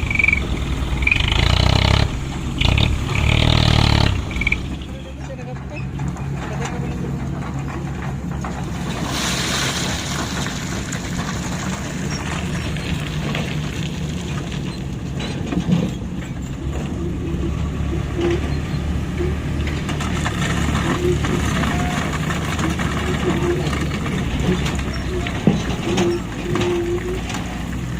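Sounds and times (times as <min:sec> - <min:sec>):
diesel engine running: 0:00.0 - 0:09.2, 0:09.8 - 0:27.9.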